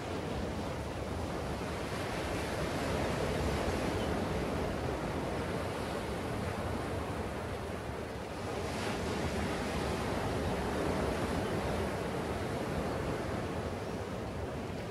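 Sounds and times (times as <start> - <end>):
ocean surf breaking on beach: 0.0 - 14.9.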